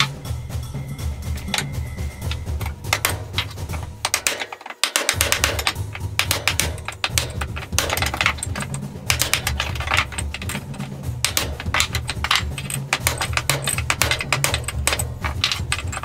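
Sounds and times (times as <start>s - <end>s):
steady low hum: 0.0s - 4.5s, 5.2s - 16.0s
wooden mallet knocking on handle: 0.0s - 16.0s.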